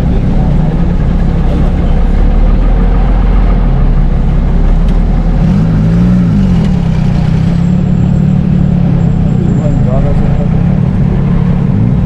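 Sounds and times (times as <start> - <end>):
motor engine running and revving: 0.0 - 12.0.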